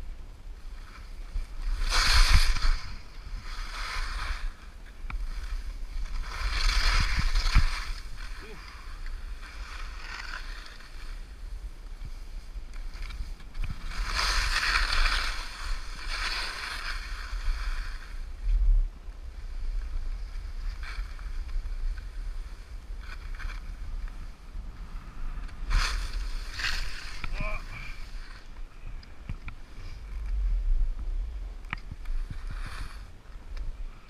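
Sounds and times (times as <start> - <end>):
steady low rumble: 0.0 - 34.0
skis swishing through snow: 0.4 - 18.8, 19.4 - 29.0, 31.8 - 34.0.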